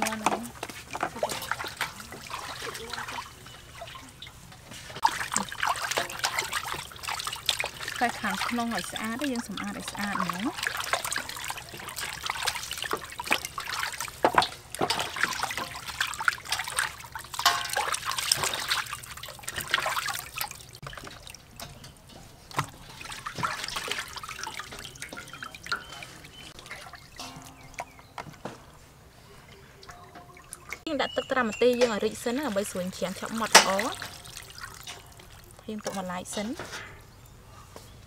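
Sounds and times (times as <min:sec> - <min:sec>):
water splashing in metal basin: 0:00.0 - 0:37.3.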